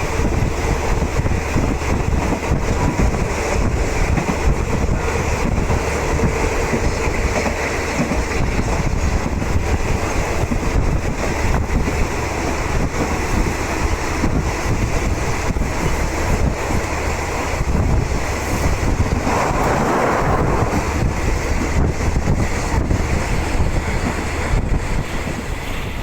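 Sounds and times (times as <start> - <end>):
train wheels on rails rumbling: 0.0 - 26.0.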